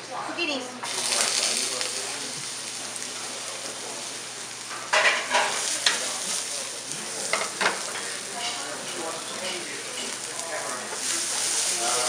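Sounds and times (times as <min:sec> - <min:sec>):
vegetables sizzling in oil: 0:00.4 - 0:12.0.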